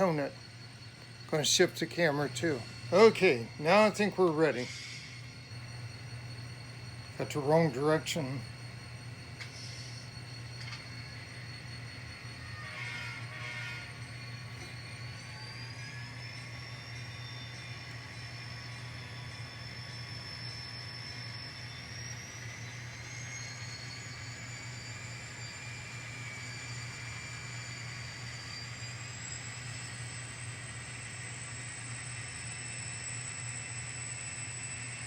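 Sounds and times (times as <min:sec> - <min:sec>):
model train humming and whining: 0:00.0 - 0:35.0.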